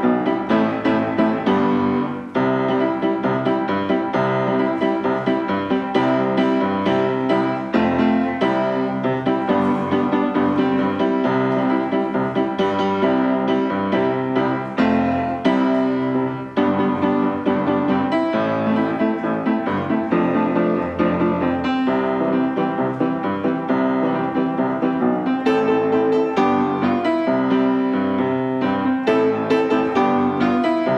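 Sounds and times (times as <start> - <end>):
piano music: 0.0 - 30.9.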